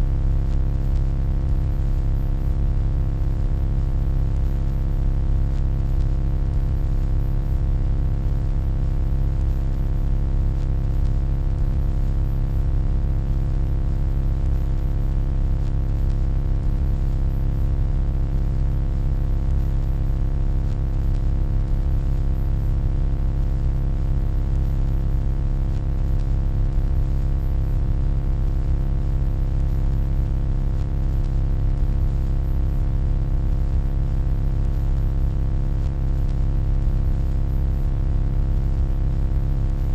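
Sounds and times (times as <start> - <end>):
electronic hum: 0.0 - 39.9.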